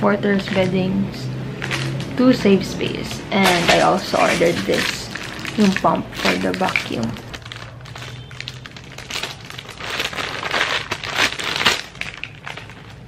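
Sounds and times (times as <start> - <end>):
plastic packaging crinkling: 0.4 - 0.9, 1.5 - 13.0.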